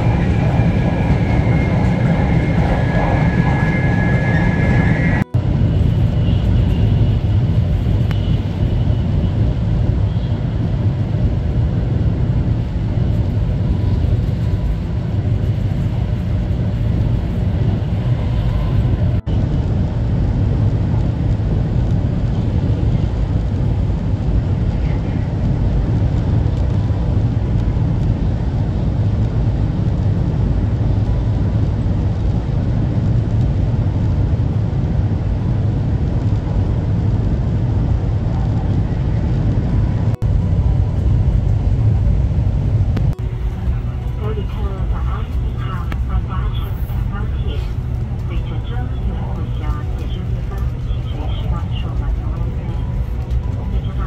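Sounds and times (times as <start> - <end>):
train rumble inside cabin: 0.0 - 54.0.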